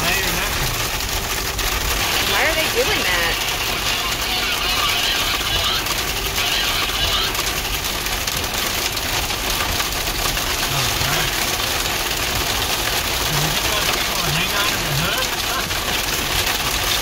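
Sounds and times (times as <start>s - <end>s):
car engine running: 0.0s - 17.0s
rain and hail on car roof: 0.0s - 17.0s.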